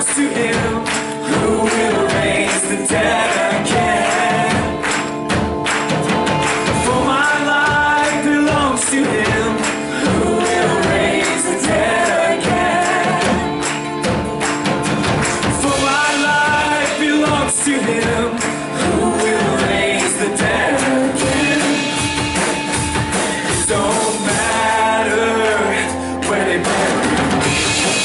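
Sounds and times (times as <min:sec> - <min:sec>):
gospel band playing: 0:00.0 - 0:28.0
people singing: 0:00.0 - 0:28.0.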